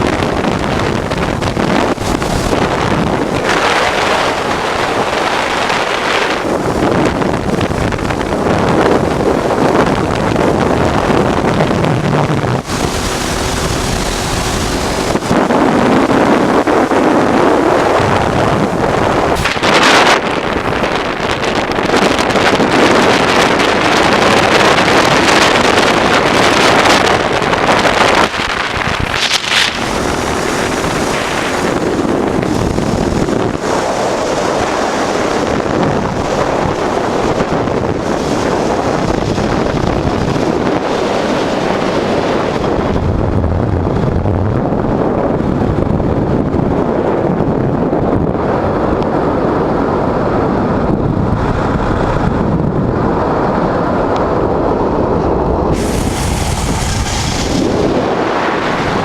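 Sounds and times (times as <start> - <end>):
motorcycle riding at speed: 0.0 - 59.0
wind buffeting microphone: 0.0 - 59.0.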